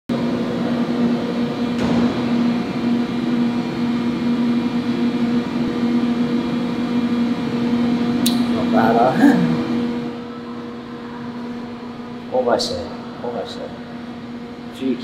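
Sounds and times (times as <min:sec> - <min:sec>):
steady mechanical hum: 0:00.1 - 0:15.0.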